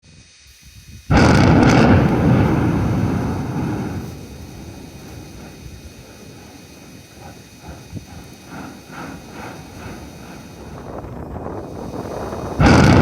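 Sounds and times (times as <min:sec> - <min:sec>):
thunderclap and rumble: 0:01.1 - 0:13.0.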